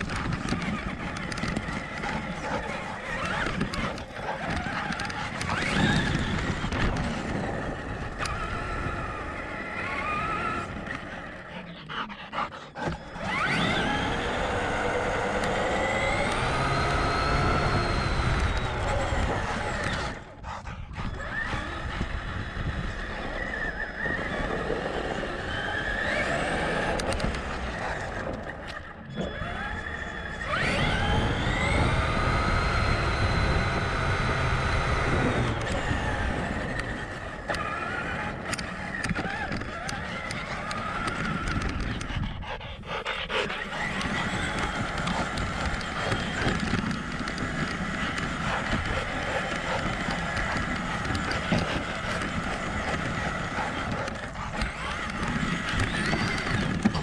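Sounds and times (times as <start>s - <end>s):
rc truck electric motor whining: 0.0s - 11.6s, 12.3s - 20.4s, 21.0s - 57.0s.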